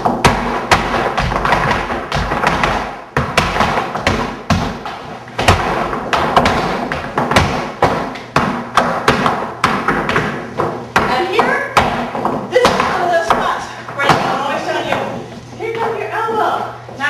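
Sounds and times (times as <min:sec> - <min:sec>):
shoes striking wooden floor: 0:00.0 - 0:17.0.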